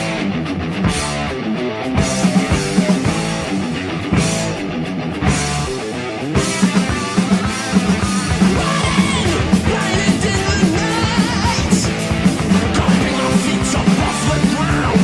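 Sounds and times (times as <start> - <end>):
heavy metal song: 0.0 - 15.0.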